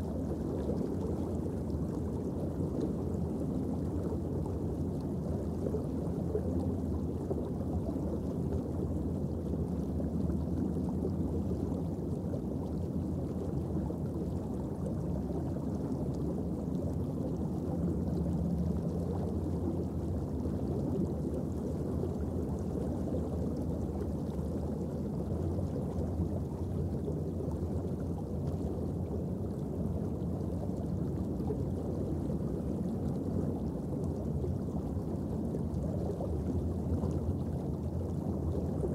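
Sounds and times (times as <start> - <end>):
faint low hum: 0.0 - 38.9
underwater low rumble: 0.0 - 38.9.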